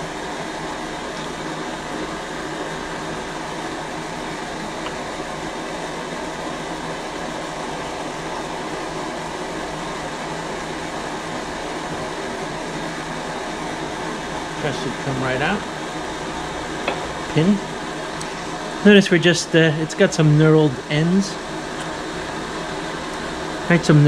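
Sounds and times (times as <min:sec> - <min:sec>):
fan humming and hissing: 0:00.0 - 0:24.0.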